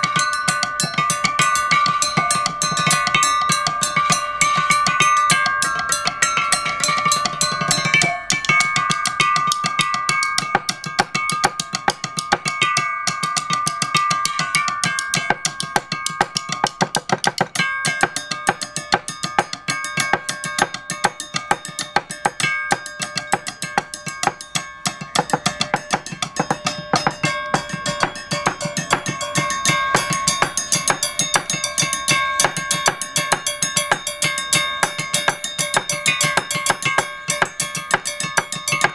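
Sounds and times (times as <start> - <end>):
mallets striking steel tubes: 0.0 - 38.9.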